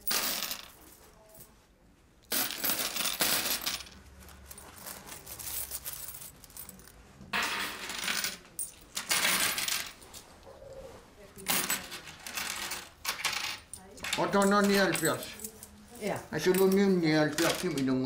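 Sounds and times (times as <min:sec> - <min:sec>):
coins clinking on wooden counter: 0:00.0 - 0:01.6, 0:02.3 - 0:10.3, 0:11.4 - 0:18.0.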